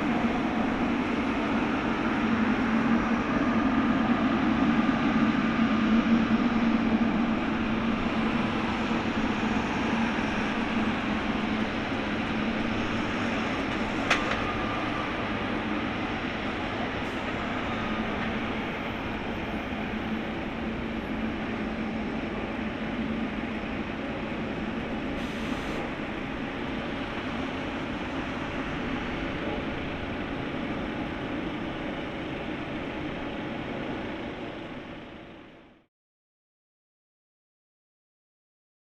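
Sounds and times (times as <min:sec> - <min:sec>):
jet engines running: 0:00.0 - 0:35.8.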